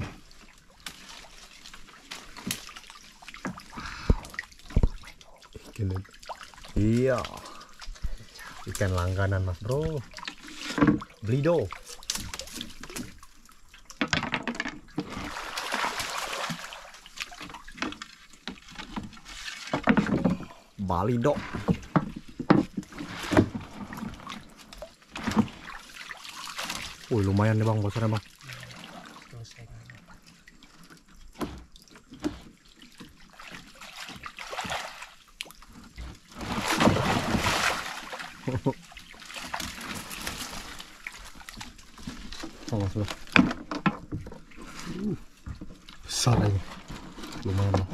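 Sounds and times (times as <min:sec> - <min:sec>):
water splashing and churning: 0:00.0 - 0:47.9.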